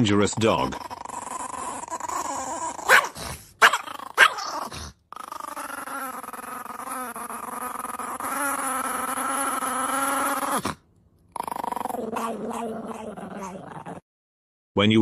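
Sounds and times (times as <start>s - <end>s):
puppy growling: 0.0s - 14.1s.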